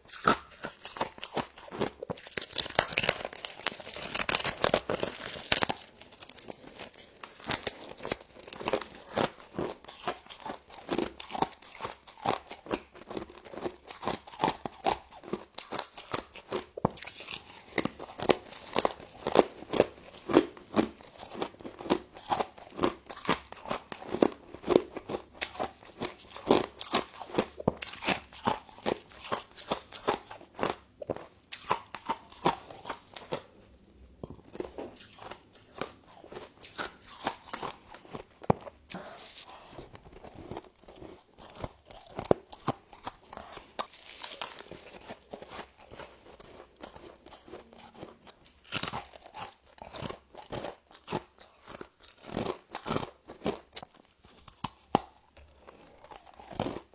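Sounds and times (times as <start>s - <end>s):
frost being chewed: 0.0s - 56.9s.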